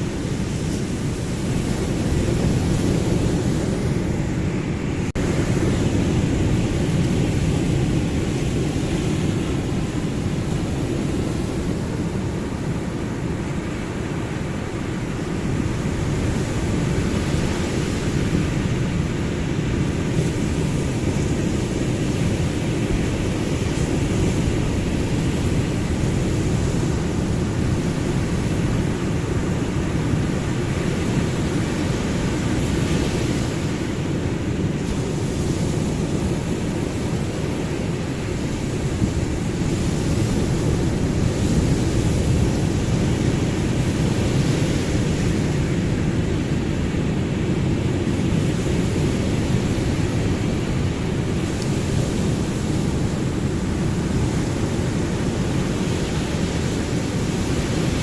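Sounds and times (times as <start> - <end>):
ocean surf rumbling: 0.0 - 58.0.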